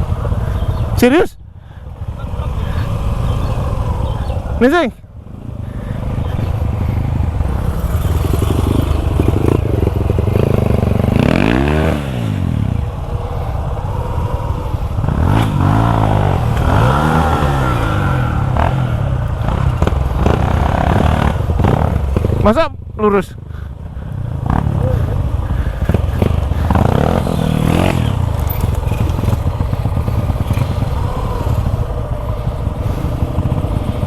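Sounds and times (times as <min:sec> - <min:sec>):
motorcycle engine revving: 0:00.0 - 0:34.0
steady rushing noise: 0:00.0 - 0:34.0.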